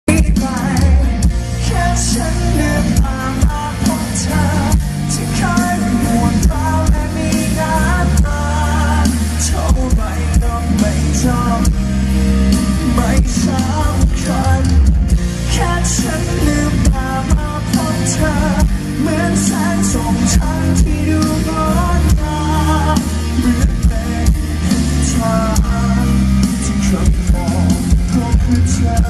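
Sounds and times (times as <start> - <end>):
live rock band playing: 0.1 - 29.0
man singing: 0.1 - 29.0.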